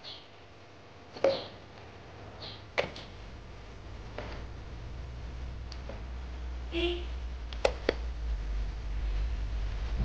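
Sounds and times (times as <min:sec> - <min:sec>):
soft hiss: 0:01.6 - 0:10.0.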